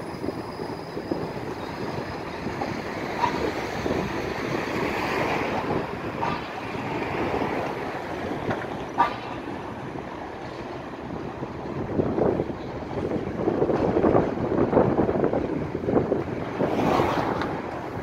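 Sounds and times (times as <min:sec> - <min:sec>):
street traffic: 0:00.0 - 0:18.0
streetcar rumbling on rails: 0:00.0 - 0:18.0
wind buffeting microphone: 0:00.0 - 0:18.0.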